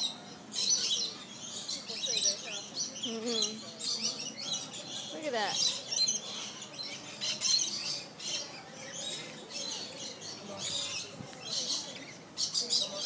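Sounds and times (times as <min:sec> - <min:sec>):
parrots screeching and chirping: 0:00.0 - 0:13.0.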